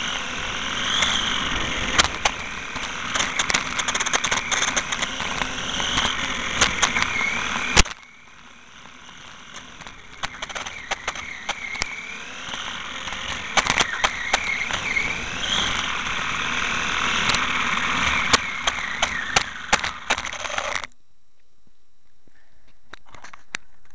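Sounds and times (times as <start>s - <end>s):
electric motor whining: 0.0s - 20.9s
tyre noise on rough asphalt: 0.0s - 20.9s
scattered clicks and knocks: 0.8s - 8.1s, 8.8s - 20.9s.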